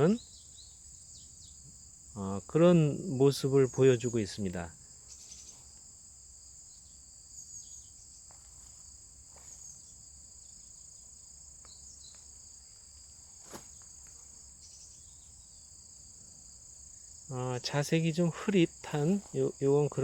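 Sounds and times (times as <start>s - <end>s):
crickets and insects chirping: 0.0s - 20.0s.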